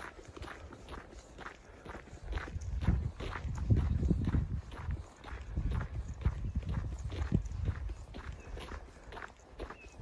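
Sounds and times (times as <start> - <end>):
footsteps on snow: 0.0 - 10.0.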